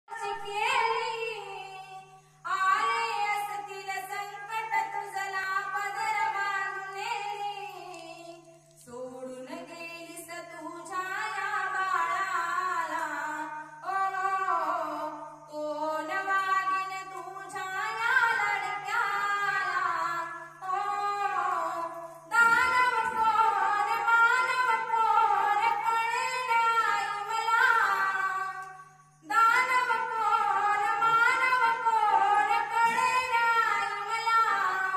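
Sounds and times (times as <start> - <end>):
woman singing: 0.1 - 34.9.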